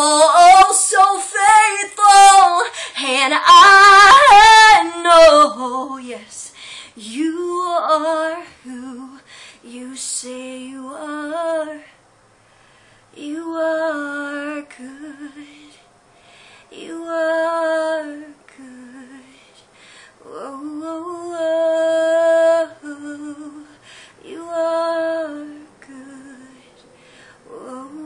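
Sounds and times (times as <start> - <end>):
woman singing unaccompanied: 0.0 - 12.0, 13.2 - 15.8, 16.7 - 19.6, 20.2 - 28.0.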